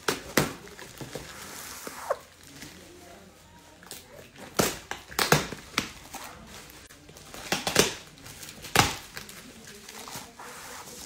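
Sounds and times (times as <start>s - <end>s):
bubble wrap crinkling: 0.2s - 11.0s.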